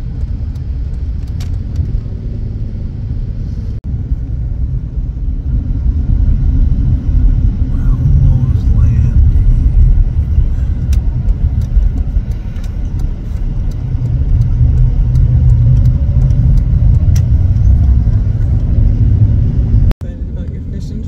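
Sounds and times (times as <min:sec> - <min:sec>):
car driving on snow: 0:00.0 - 0:21.0.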